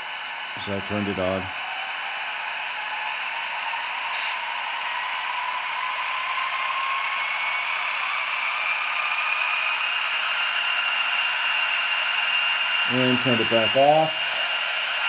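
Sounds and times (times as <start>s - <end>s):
locomotive brake hissing whine: 0.0s - 15.0s.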